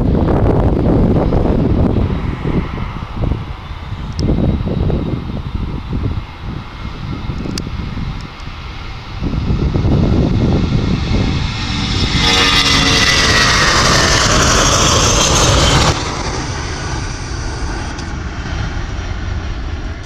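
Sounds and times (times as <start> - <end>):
jet engines roaring: 0.0 - 20.0
steady jet rumble: 0.0 - 20.0.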